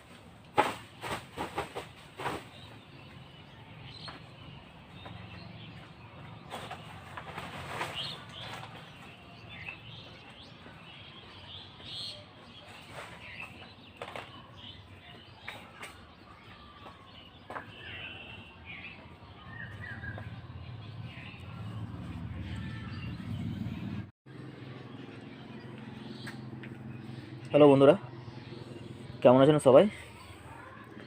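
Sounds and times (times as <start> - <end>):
small birds chirping: 0.9 - 31.0.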